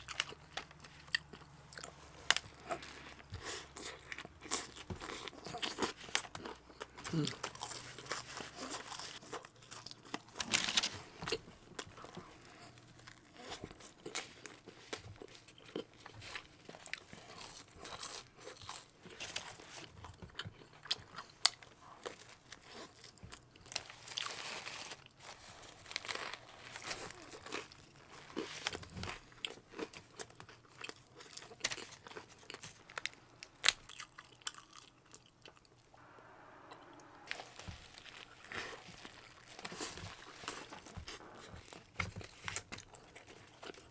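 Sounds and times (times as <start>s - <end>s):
crunchy bites and chewing: 0.0s - 35.7s.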